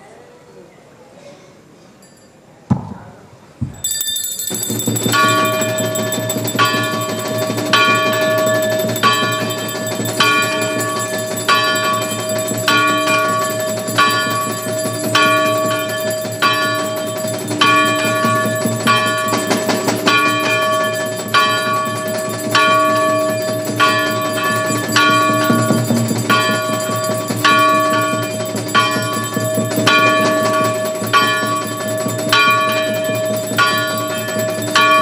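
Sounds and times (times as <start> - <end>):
bell ringing: 3.8 - 35.0.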